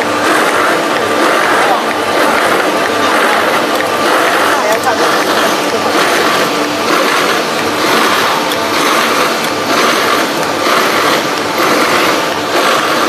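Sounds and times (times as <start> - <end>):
extrusion machine running: 0.0 - 13.0.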